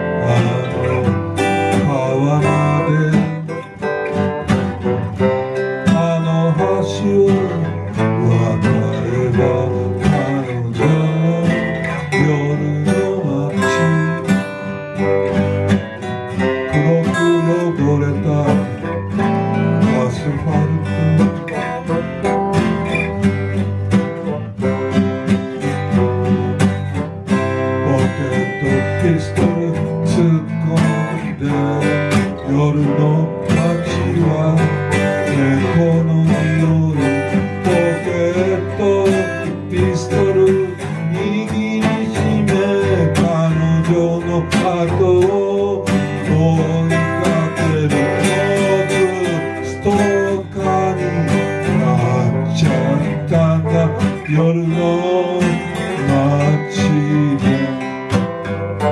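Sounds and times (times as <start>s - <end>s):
band music with strummed guitar: 0.0s - 58.9s.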